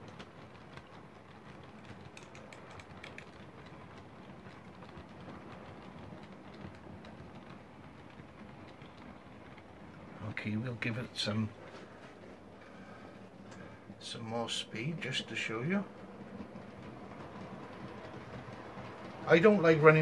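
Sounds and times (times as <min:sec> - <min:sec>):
wheels rolling on track: 0:00.0 - 0:20.0.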